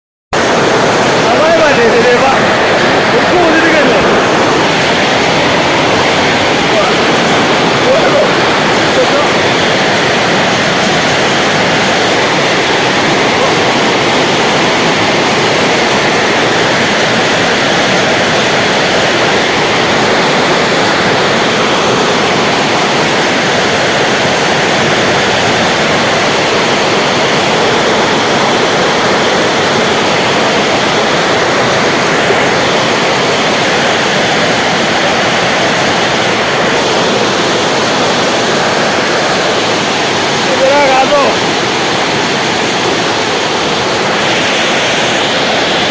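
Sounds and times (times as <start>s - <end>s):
hail and heavy rain falling: 0.4s - 45.9s.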